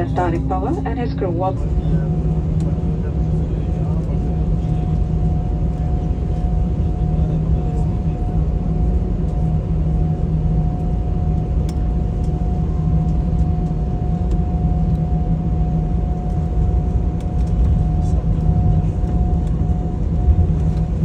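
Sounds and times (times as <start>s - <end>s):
jet engines low rumble: 0.0s - 21.0s
steady cabin hum: 0.0s - 21.0s.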